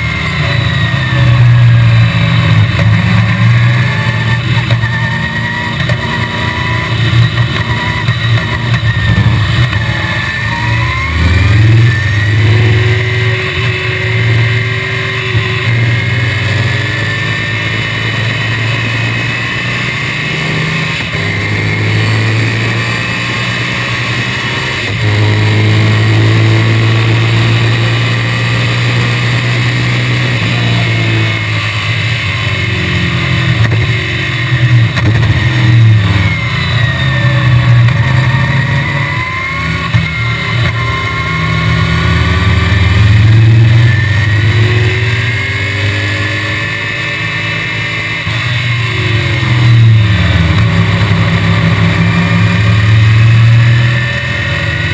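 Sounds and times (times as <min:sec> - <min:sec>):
car engine running hard: 0:00.0 - 0:54.9.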